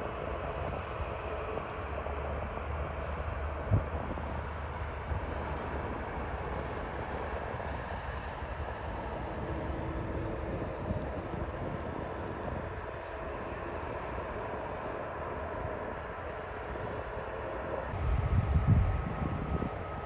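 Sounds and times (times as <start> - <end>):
jet engines rushing hum: 0.0 - 20.0.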